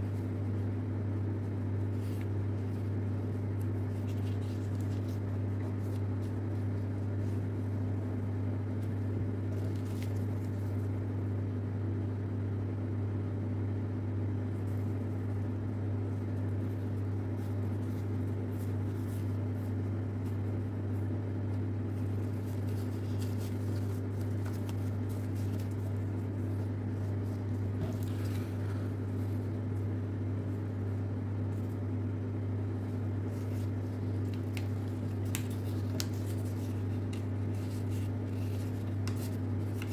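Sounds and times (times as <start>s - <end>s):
paper crinkling: 0.0s - 11.0s, 16.1s - 39.9s
steady low hum: 0.0s - 39.9s.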